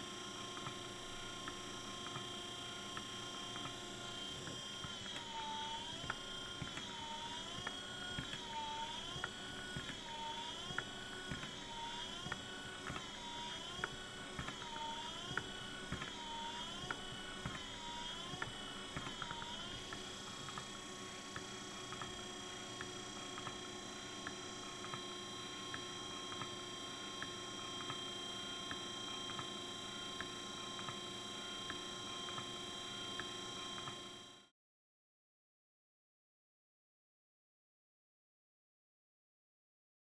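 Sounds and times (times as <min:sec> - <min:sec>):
wiper motor whine: 0:00.0 - 0:34.5.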